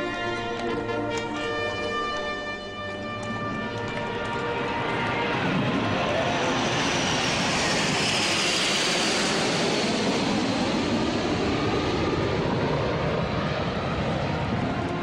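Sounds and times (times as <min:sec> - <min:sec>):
jet planes flying overhead: 0:00.0 - 0:15.0.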